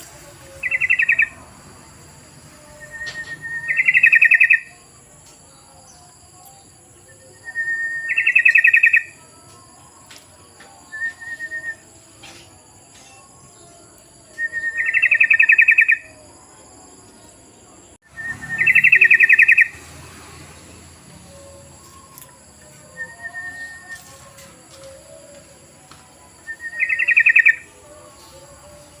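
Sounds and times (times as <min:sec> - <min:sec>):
bulbul song with chattering trill: 0:00.0 - 0:29.0.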